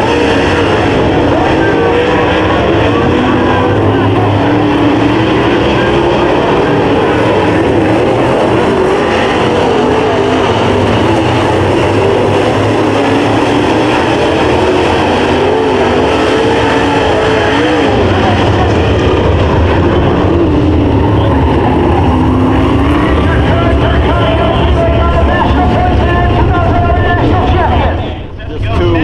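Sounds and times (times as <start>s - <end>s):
race car engines roaring: 0.0s - 29.0s.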